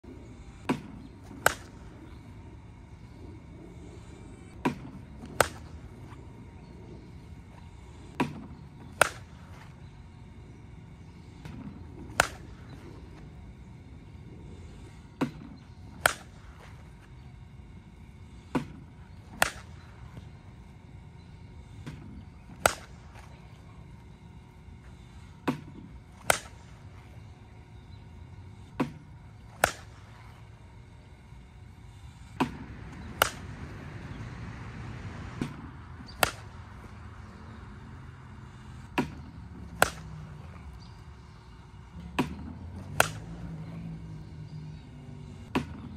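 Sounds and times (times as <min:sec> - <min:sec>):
bat cracking softballs: 0:00.1 - 0:45.9.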